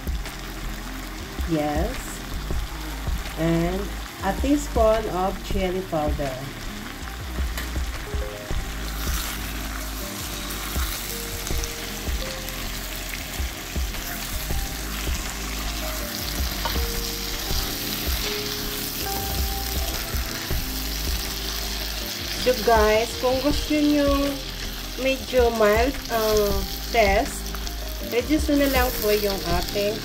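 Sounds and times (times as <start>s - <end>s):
meat sizzling in hot oil: 0.0s - 30.0s.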